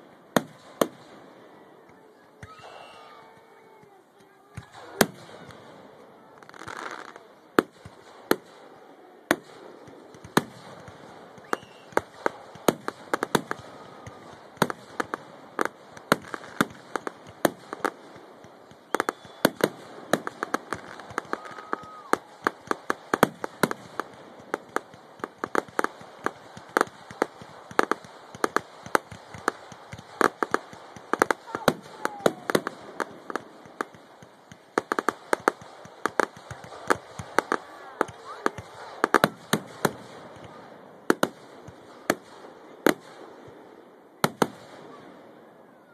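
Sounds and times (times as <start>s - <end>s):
fireworks popping and banging: 0.0s - 1.2s, 1.8s - 45.1s.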